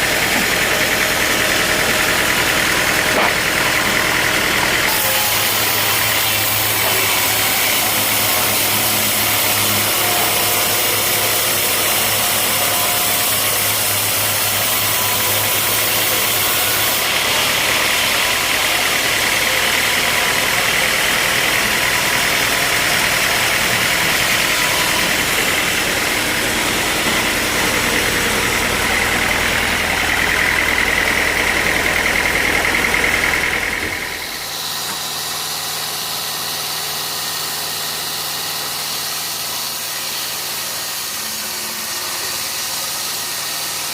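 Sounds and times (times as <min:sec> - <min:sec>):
sawmill machinery droning: 0:00.0 - 0:43.9.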